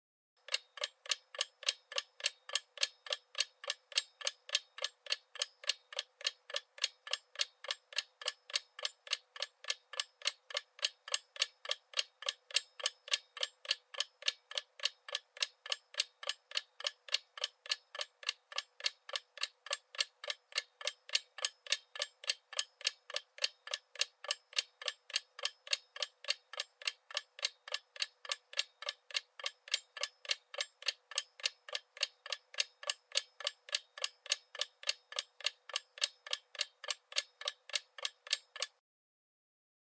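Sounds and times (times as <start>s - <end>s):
clock ticking: 0.4s - 38.8s.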